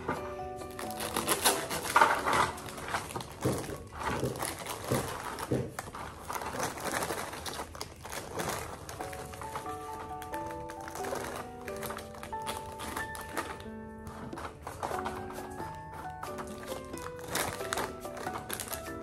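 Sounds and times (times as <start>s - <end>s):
crinkling and rustling: 0.0s - 19.0s.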